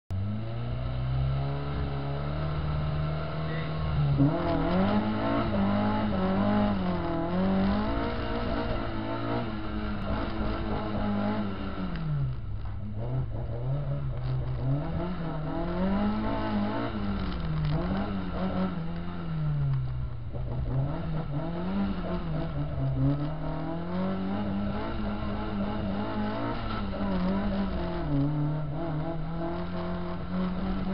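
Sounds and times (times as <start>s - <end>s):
car engine revving: 0.1s - 30.9s.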